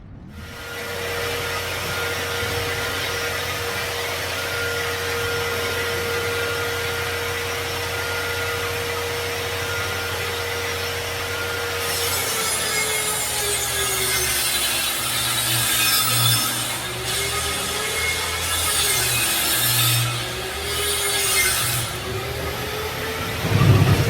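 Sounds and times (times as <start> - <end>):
power tool cutting wood: 0.4 - 24.0.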